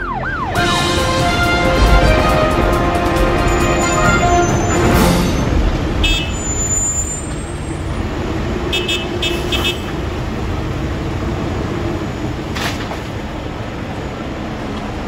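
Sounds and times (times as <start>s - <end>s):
heavy machinery engines rumbling: 0.0s - 15.0s.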